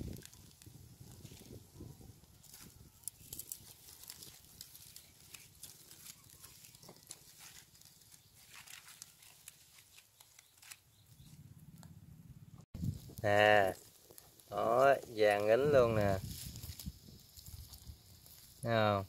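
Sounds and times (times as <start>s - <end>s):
small fire crackling: 0.0s - 11.3s, 12.8s - 19.0s.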